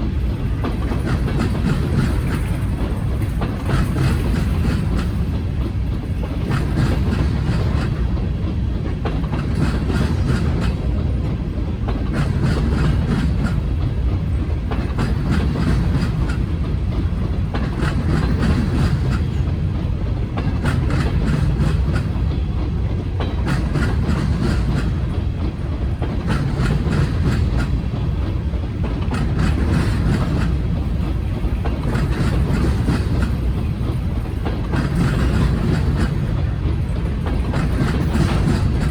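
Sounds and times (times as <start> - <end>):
freight train rolling past: 0.0 - 38.9
wheels clicking over rail joints: 0.0 - 38.9.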